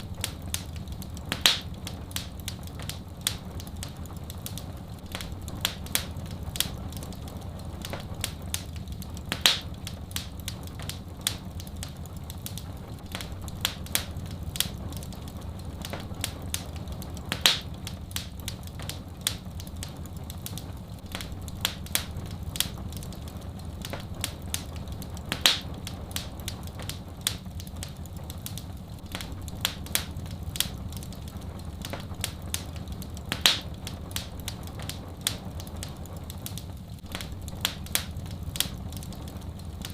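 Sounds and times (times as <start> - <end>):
fireplace fire crackling: 0.0 - 39.9
low rumble of fire: 0.0 - 39.9.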